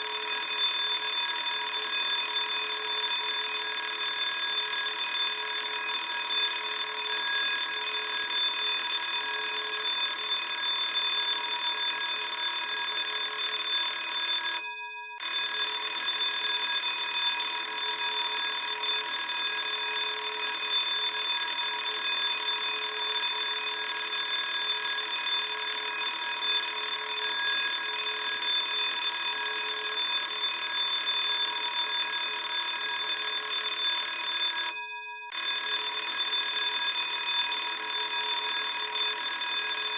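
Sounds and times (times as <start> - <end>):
electric school bell ringing: 0.0 - 39.9.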